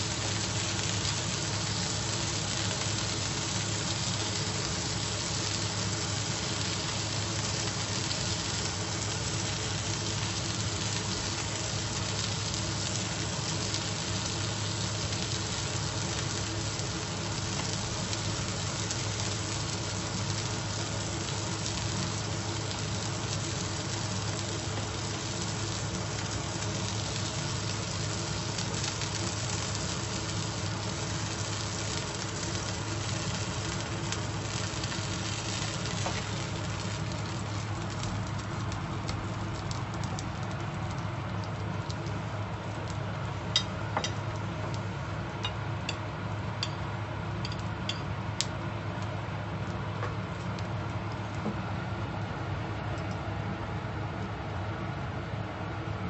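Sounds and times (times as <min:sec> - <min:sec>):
meat sizzling in a frying pan: 0:00.0 - 0:51.4.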